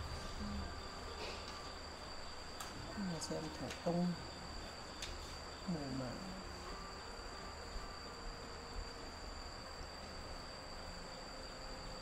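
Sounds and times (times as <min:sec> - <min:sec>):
crickets trilling: 0:00.0 - 0:12.0
faint low background noise: 0:00.0 - 0:12.0.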